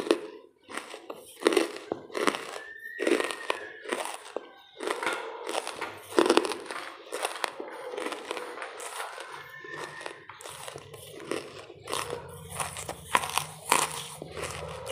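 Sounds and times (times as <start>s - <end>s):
charcoal crunching and crackling: 0.0s - 14.9s.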